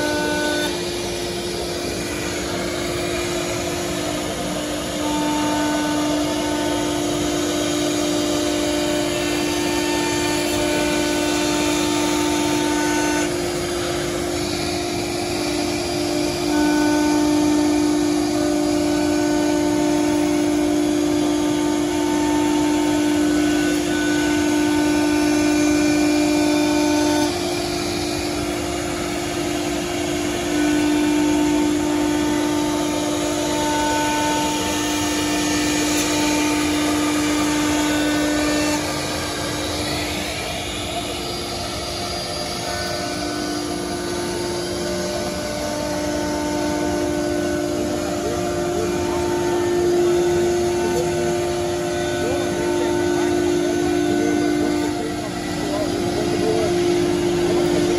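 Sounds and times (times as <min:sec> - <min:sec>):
router spindle cutting board: 0:00.0 - 0:57.9.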